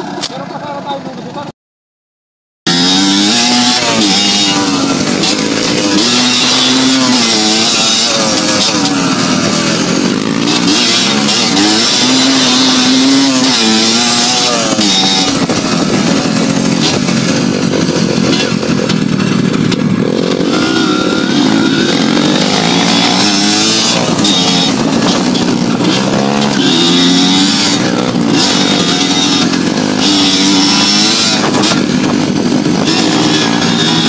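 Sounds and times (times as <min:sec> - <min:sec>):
motorcycle engine revving: 0:02.7 - 0:34.0.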